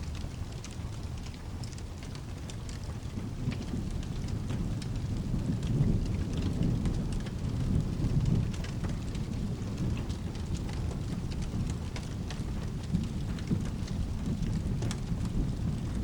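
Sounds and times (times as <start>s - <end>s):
sharp crackling ticks: 0.0s - 16.0s
steady rain: 0.0s - 16.0s
thunder rumbling: 0.0s - 16.0s.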